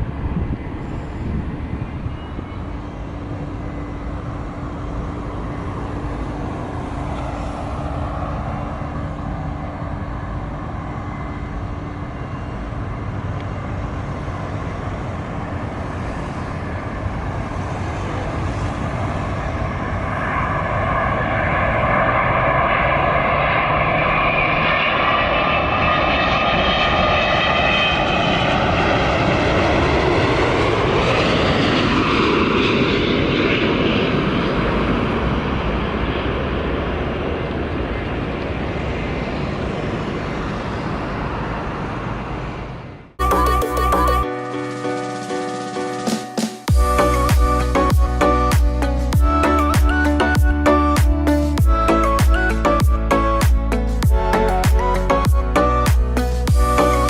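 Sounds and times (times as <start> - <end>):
jet airliner engine noise: 0.0 - 57.0
rising engine whine: 0.0 - 57.0.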